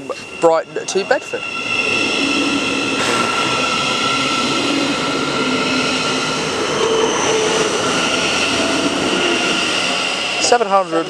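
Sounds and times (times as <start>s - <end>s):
electric traction whine: 0.0s - 11.0s
train wheels rumbling on rails: 0.0s - 11.0s.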